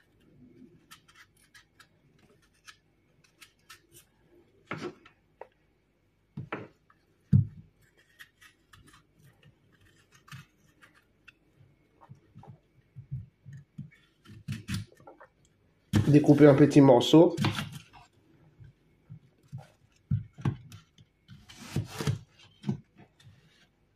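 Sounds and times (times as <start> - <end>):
knife peeling an apple: 0.0 - 5.0, 7.4 - 23.9.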